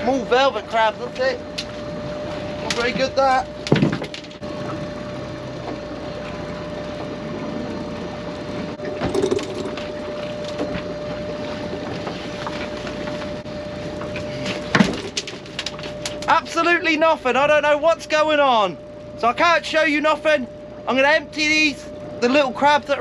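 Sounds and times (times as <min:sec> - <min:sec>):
boat machinery whine: 0:00.0 - 0:23.0
wind and water noise: 0:00.0 - 0:23.0.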